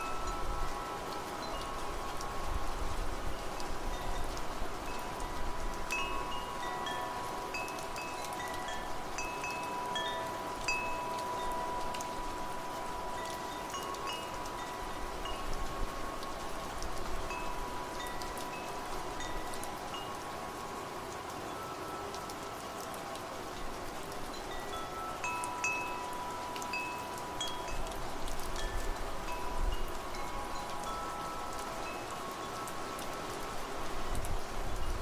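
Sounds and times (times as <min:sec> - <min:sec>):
rain hissing: 0:00.0 - 0:35.0
wind chimes ringing: 0:00.0 - 0:35.0.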